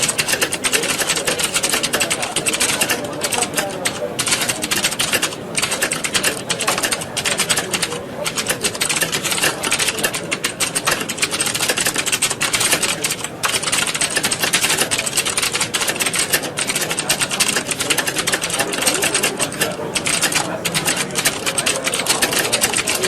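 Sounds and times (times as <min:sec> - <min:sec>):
keyboards typing clatter: 0:00.0 - 0:23.0.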